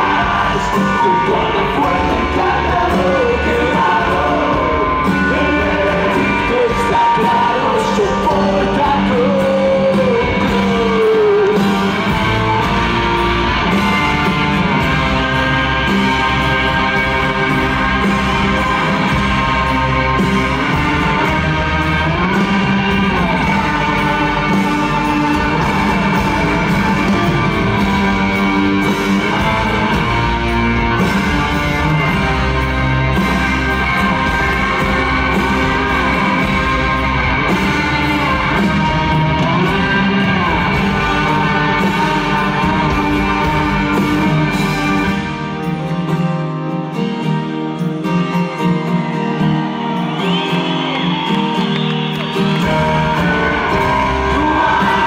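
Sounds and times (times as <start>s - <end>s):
electric guitars: 0.0s - 55.0s
live rock band playing: 0.0s - 55.0s.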